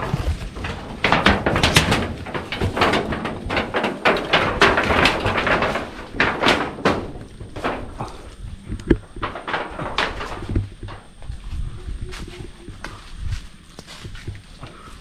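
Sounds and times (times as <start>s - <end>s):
dense rustling and knocking: 0.0s - 15.0s.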